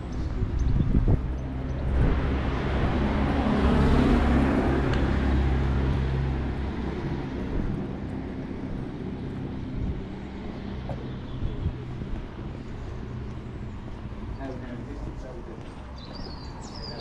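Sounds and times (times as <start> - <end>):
vehicle passing by: 0.0 - 15.2.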